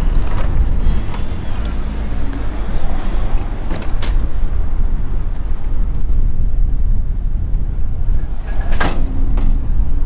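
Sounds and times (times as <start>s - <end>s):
low street rumble: 0.0s - 10.0s.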